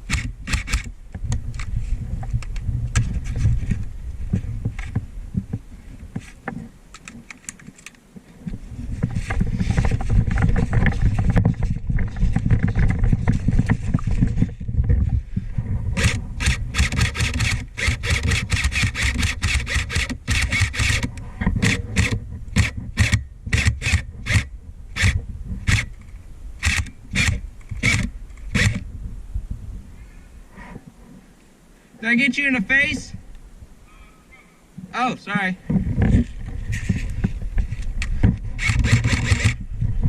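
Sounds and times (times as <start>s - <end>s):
rumbling and rustling movement: 0.0s - 33.9s, 35.6s - 40.0s.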